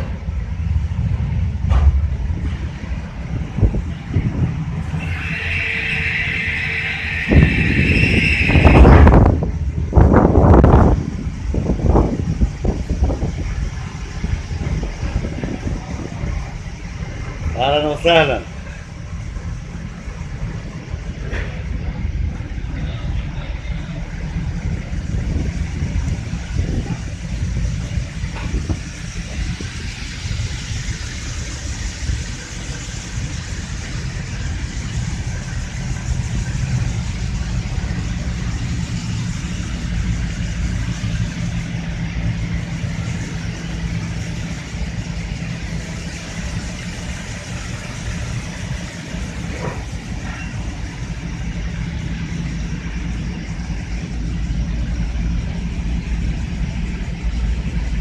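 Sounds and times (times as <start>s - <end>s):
broad rushing noise: 0.0s - 58.0s
deep hum of engines: 0.0s - 58.0s.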